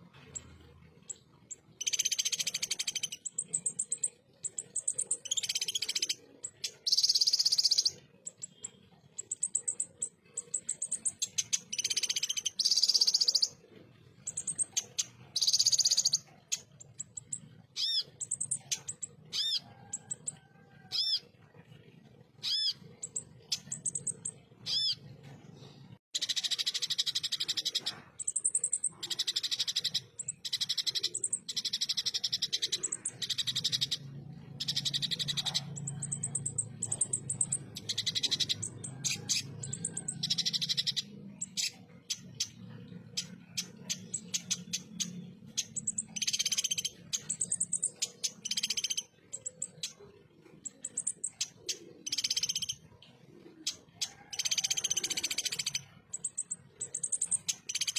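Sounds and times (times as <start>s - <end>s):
bird singing rattling bursts: 0.0s - 21.3s, 22.2s - 25.2s, 26.0s - 57.9s.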